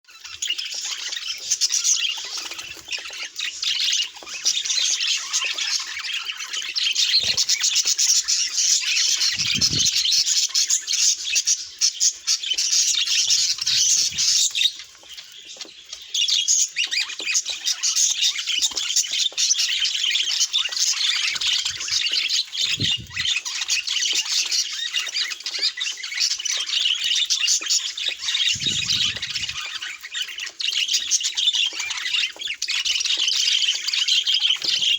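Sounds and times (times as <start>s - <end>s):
budgerigars chattering and squawking: 0.1s - 34.9s.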